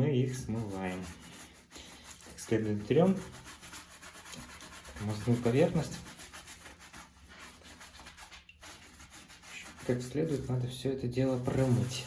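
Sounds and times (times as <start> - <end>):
sponge scrubbing metal rotor: 0.2 - 12.0.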